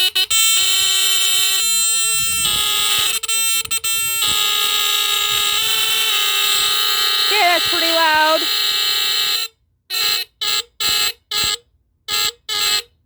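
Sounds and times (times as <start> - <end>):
fire alarm horns buzzing: 0.0 - 13.0.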